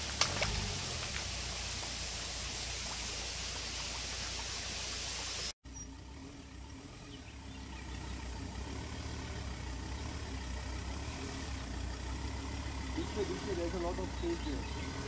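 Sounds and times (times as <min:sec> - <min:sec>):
diesel engine running slowly: 0:00.0 - 0:15.0.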